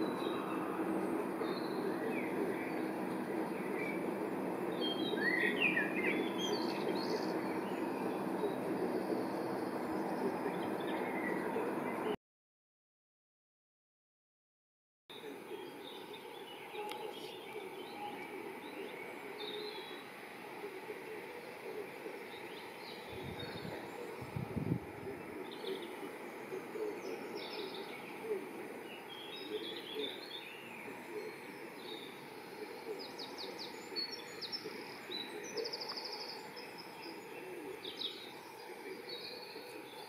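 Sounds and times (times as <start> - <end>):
small birds chirping: 0.0 - 12.1, 15.1 - 40.0
outdoor background hum: 0.0 - 12.2, 15.1 - 40.0.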